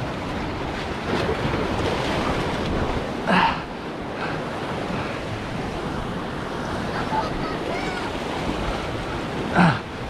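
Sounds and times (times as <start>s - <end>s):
surf washing against boulders: 0.0s - 10.0s.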